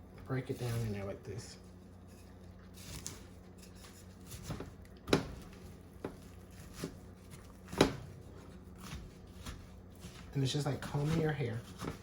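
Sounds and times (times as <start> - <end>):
spoons scraping squash: 0.3 - 12.0.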